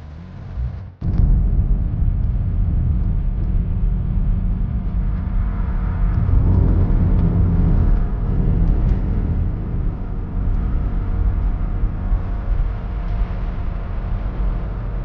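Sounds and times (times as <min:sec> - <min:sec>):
loud low rumble: 0:00.0 - 0:15.0.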